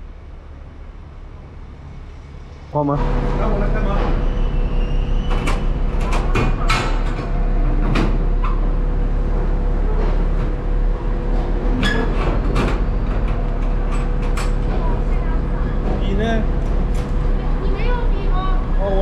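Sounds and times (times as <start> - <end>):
truck engines idling: 0.0 - 19.0.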